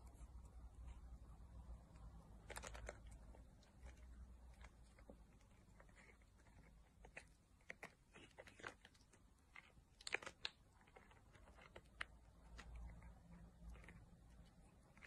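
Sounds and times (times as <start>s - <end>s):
cat chewing and licking: 0.0s - 15.0s.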